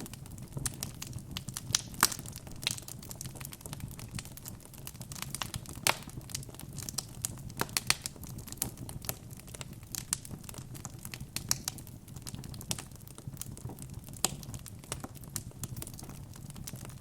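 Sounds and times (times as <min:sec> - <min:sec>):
low rumble of fire: 0:00.0 - 0:17.0
wood fire crackling: 0:00.0 - 0:17.0.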